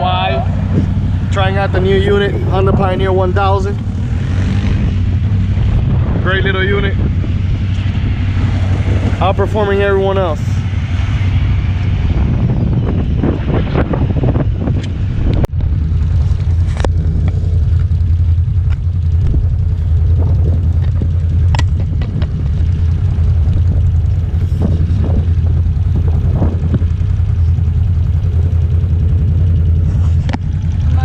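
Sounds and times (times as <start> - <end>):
vehicle engine droning: 0.0 - 31.0.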